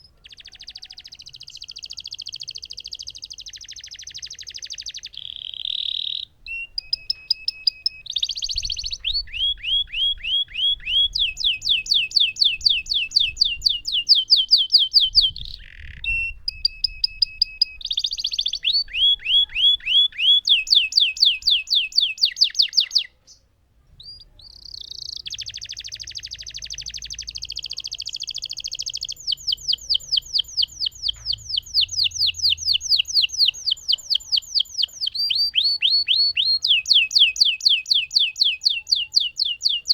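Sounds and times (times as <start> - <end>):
canary singing rapid trills: 0.0 - 23.2, 24.0 - 39.9.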